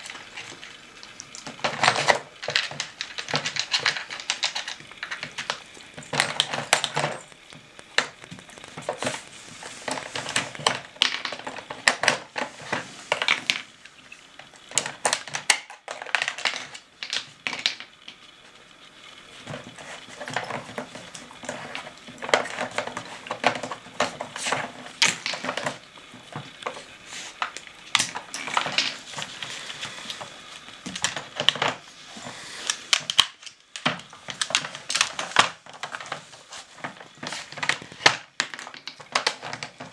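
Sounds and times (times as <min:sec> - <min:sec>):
plastic clicking and clattering: 0:00.1 - 0:13.7, 0:14.4 - 0:18.2, 0:19.4 - 0:31.8, 0:32.6 - 0:39.9.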